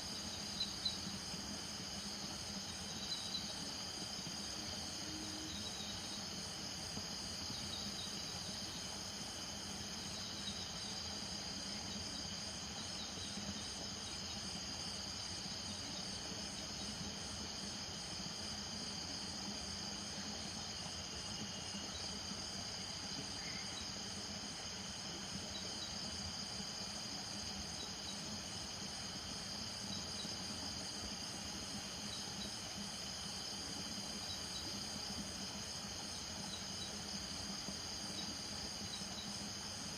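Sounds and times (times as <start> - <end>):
crickets and insects trilling: 0.0 - 39.9
fast pulsing insect call: 0.0 - 39.9.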